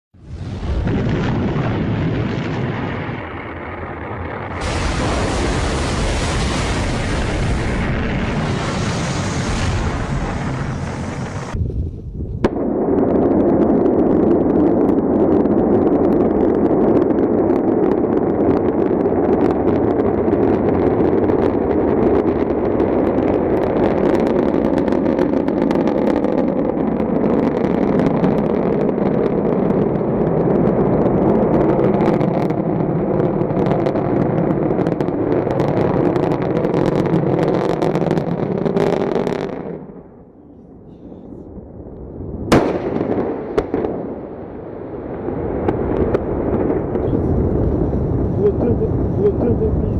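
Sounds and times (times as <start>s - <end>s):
crackling rocket engine exhaust: 0.2s - 49.9s.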